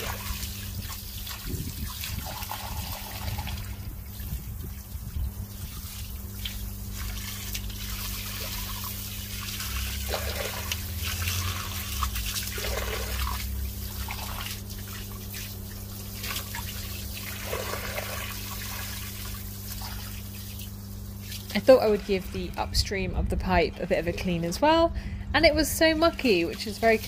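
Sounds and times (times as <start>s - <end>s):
water splashing into a drain: 0.0s - 22.3s, 26.2s - 27.0s.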